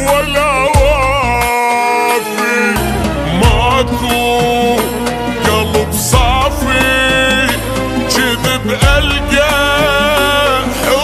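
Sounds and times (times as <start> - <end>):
pop song with beat and bass: 0.0 - 11.0.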